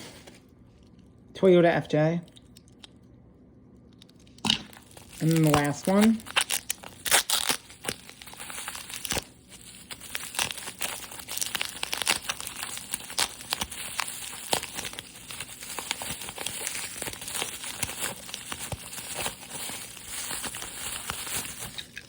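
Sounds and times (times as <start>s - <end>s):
plastic packaging crinkling and tearing: 4.0s - 22.0s.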